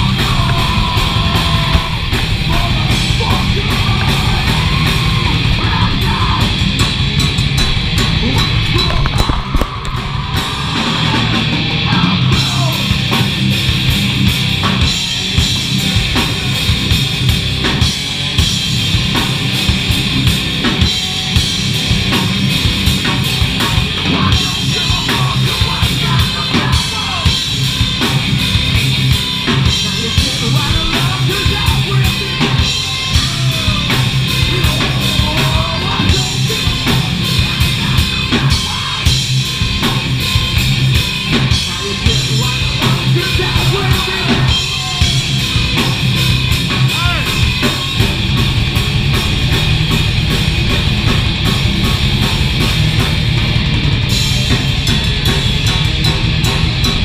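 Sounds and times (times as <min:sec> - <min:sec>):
bass guitar: 0:00.0 - 0:57.0
drumming: 0:00.0 - 0:57.0
electric guitar: 0:00.0 - 0:57.0.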